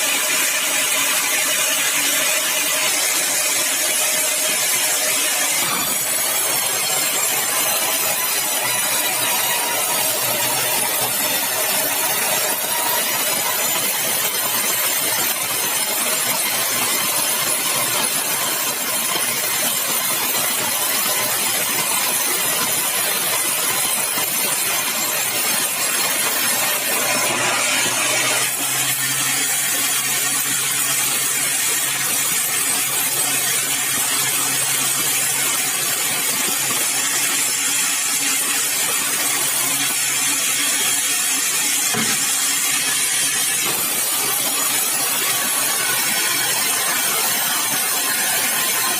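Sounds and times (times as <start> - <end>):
sawmill saw cutting log: 0.0 - 48.9.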